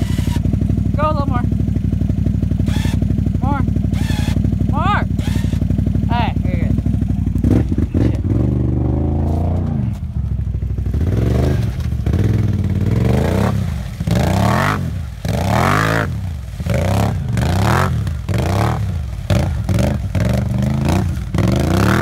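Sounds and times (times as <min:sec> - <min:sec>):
quad engine revving: 0:00.0 - 0:22.0.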